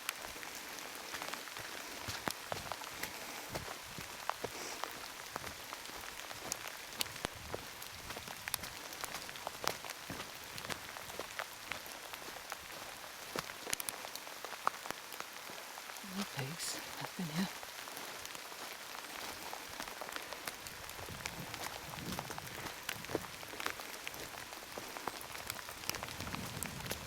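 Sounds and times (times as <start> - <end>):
heavy rain: 0.0 - 27.0.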